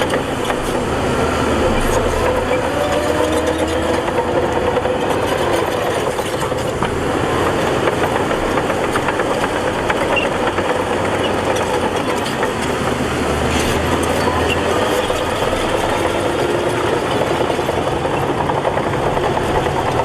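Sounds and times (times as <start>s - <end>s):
diesel machinery engine running: 0.0s - 20.0s
machinery rattle and clatter: 0.0s - 20.0s.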